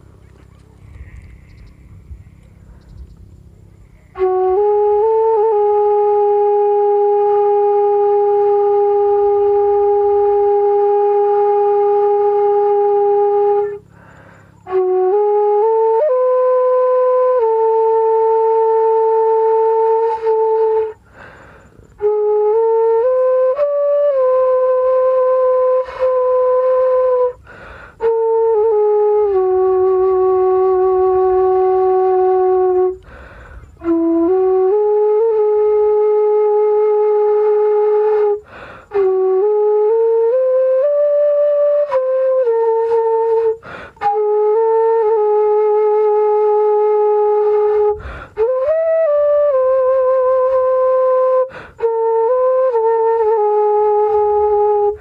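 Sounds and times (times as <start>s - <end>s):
bamboo flute playing long notes: 0.0s - 55.0s.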